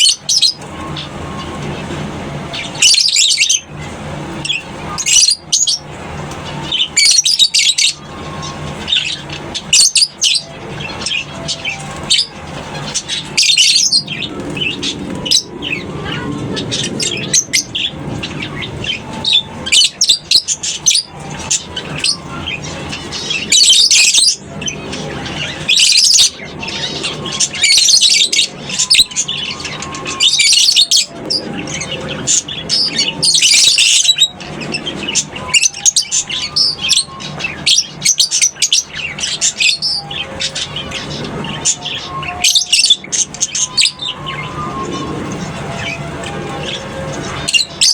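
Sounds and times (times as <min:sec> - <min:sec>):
lovebirds chirping and squawking: 0:00.0 - 0:47.9.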